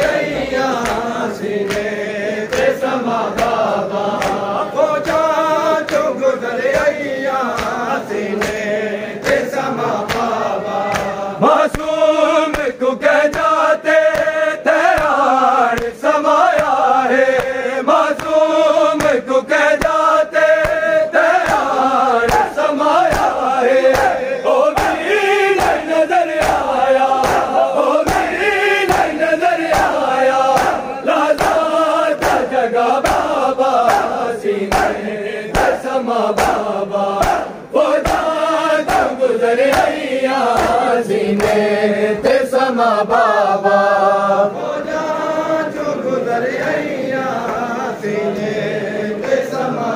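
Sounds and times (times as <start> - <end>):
hands slapping chests: 0.0 - 20.0, 20.6 - 41.7
men chanting in unison: 0.0 - 49.9.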